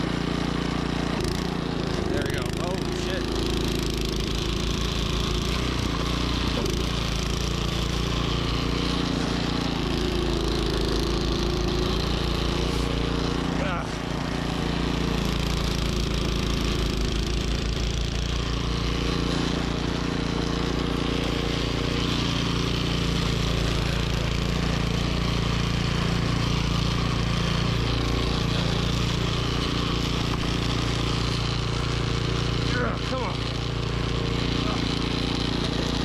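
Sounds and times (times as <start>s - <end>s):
snowblower engine running: 0.0s - 36.0s.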